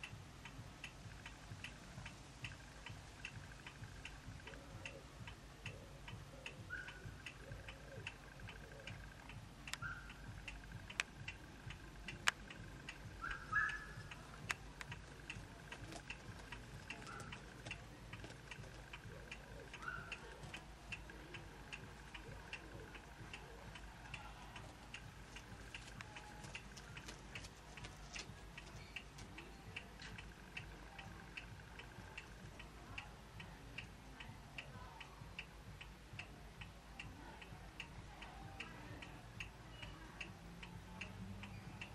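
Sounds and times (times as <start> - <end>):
faint steady ticking: 0.0 - 41.9
sharp clicks: 0.0 - 41.9.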